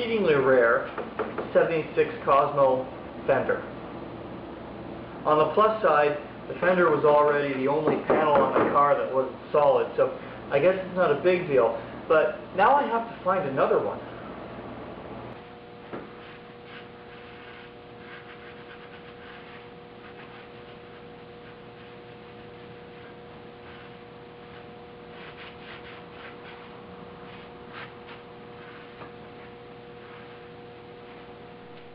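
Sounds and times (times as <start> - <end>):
steady two-tone hum: 0.0 - 31.9.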